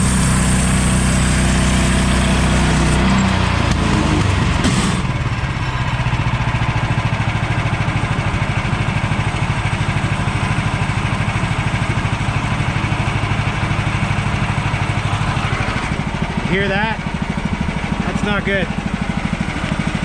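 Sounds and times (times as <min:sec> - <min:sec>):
gas engine running: 0:00.0 - 0:20.0.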